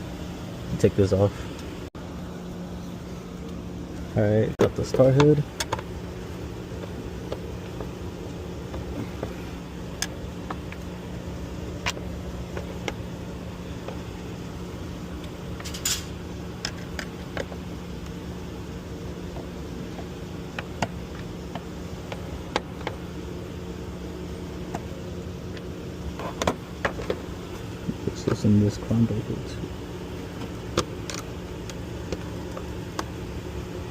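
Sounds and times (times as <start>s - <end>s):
steady mechanical hum: 0.0s - 33.9s.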